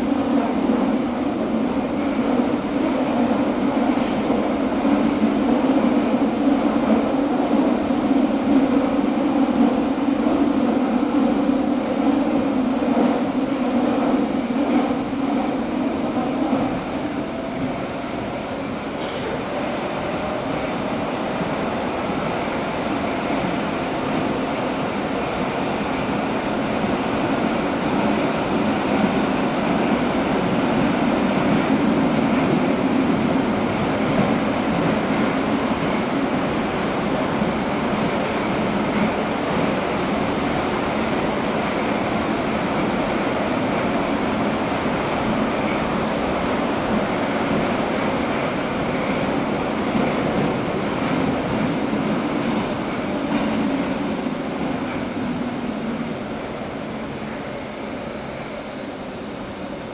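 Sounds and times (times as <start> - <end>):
metro train rumbling in tunnel: 0.0 - 59.9.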